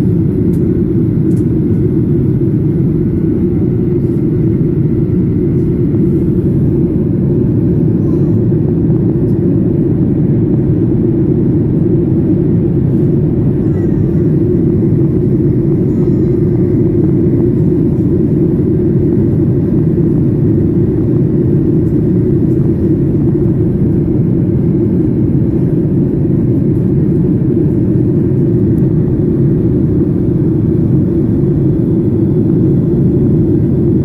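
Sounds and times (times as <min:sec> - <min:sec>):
airliner cabin roar: 0:00.0 - 0:34.0.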